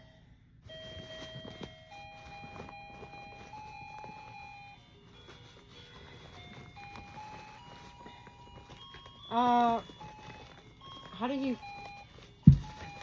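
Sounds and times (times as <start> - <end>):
faint slow electronic melody: 0.0 - 13.0.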